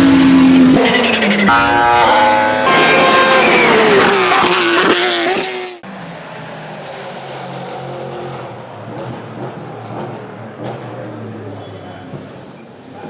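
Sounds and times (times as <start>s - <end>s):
racing engine at high revs: 0.0s - 1.8s, 2.6s - 12.6s.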